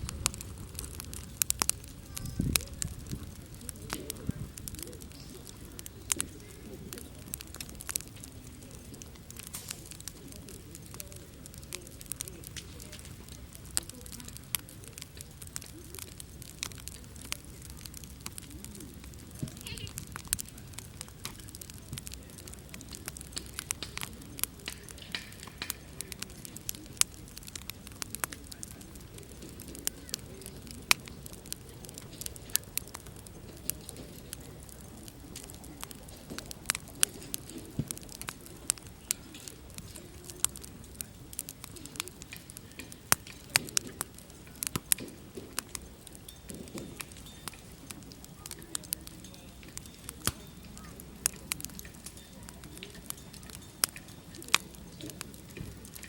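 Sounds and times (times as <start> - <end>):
hiss of flames: 0.0 - 50.5
wood fire crackling and popping: 0.0 - 56.0.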